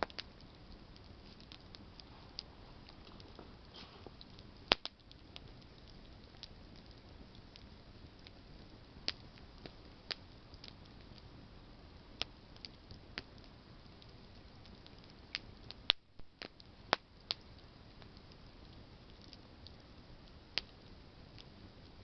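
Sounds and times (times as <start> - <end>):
campfire crackling: 0.0 - 22.0
faint steady hiss: 0.0 - 22.0.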